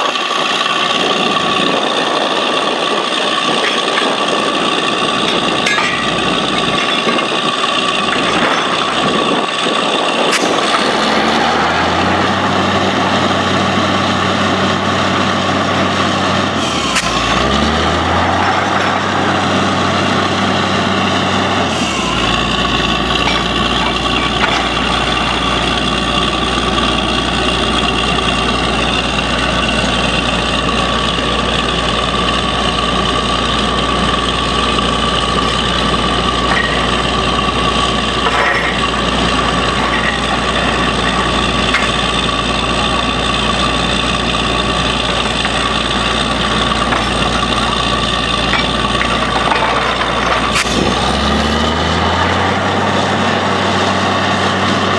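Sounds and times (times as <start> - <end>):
deep rumble: 0.8 - 54.9.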